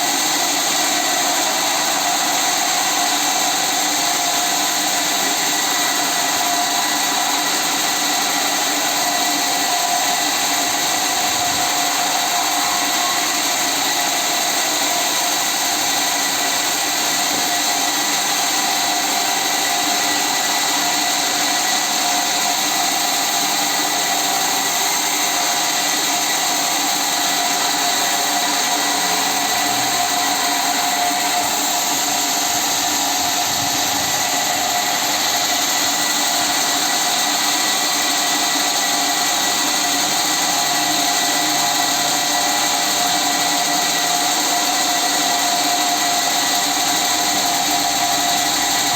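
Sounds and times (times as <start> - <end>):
motor-driven machine whining: 0.0 - 48.9.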